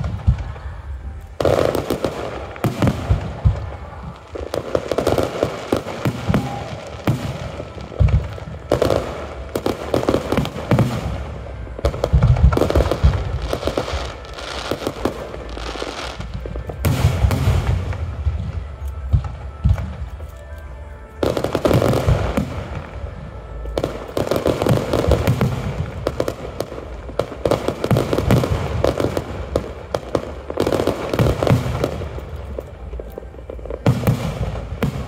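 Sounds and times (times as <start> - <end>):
fireworks bangs and booms: 0.0 - 35.0
fireworks crackling: 0.0 - 35.0.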